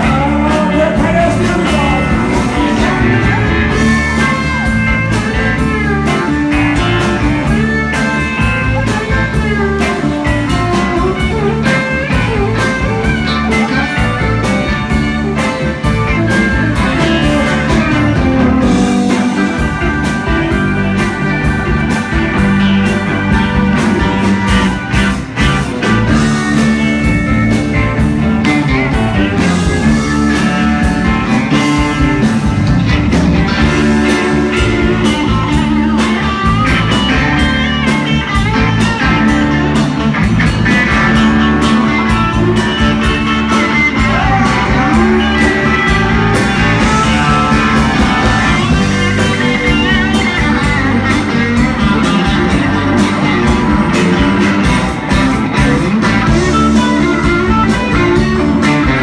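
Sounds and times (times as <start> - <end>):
bass: 0.0 - 59.0
guitars: 0.0 - 59.0
pedal steel guitar: 0.0 - 59.0
steady drumbeat: 0.0 - 59.0.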